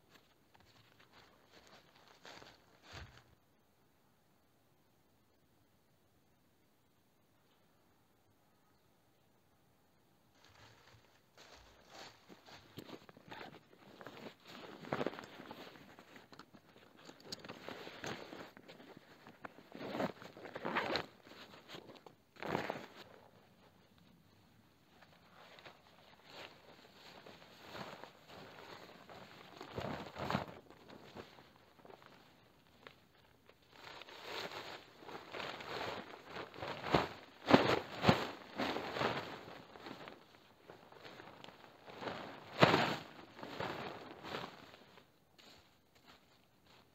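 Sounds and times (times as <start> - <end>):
crunching and rustling of gear: 0.0 - 3.4, 10.3 - 46.9.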